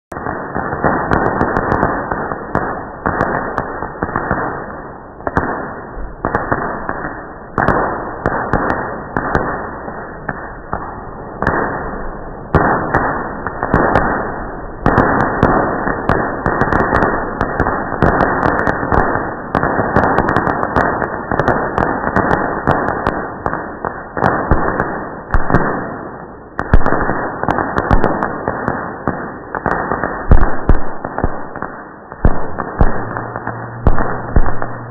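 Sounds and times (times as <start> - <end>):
slowed fireworks bangs: 0.1 - 34.9.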